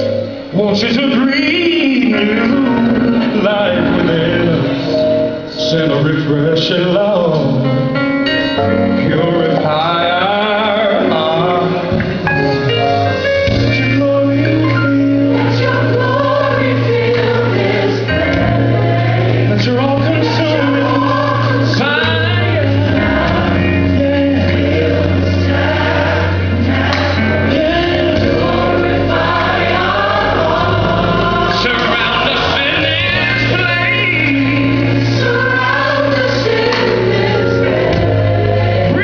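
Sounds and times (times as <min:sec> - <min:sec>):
gospel choir with band: 0:00.0 - 0:39.0
held bass notes: 0:00.0 - 0:39.0.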